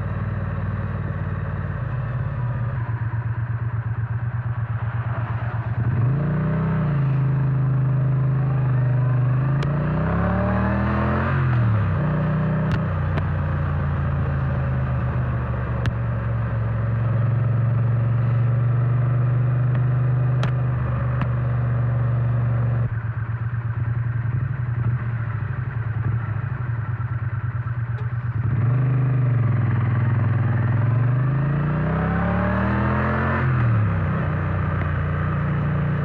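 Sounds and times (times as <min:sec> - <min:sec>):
motorcycle engine and exhaust: 0:00.0 - 0:36.0.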